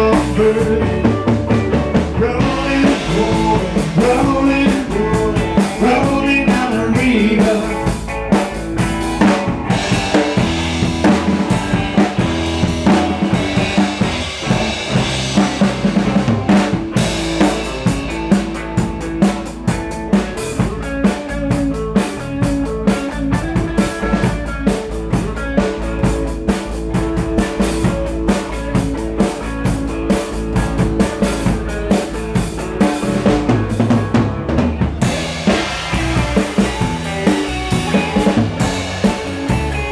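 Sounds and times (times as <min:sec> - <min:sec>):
drum kit beat: 0:00.0 - 0:39.9
electric guitar: 0:00.0 - 0:39.9
live rock band playing: 0:00.0 - 0:39.9.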